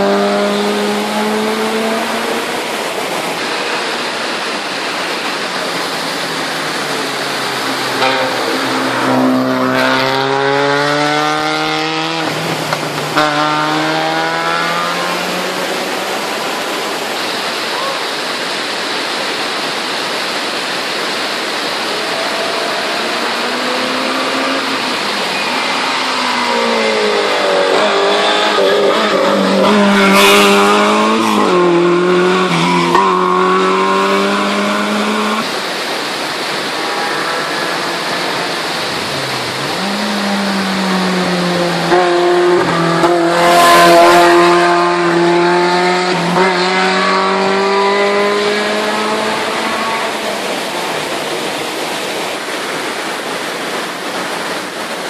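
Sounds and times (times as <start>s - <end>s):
race car engines revving: 0.0s - 19.4s, 20.3s - 55.0s.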